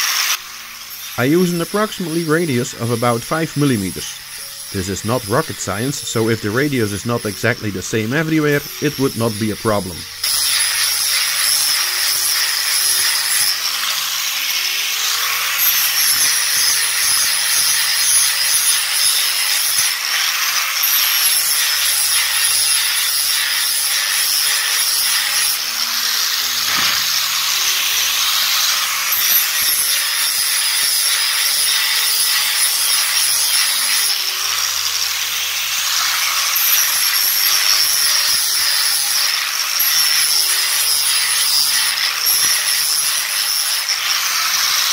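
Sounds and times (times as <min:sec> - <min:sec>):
angle grinder sanding wood: 0:00.0 - 0:44.9.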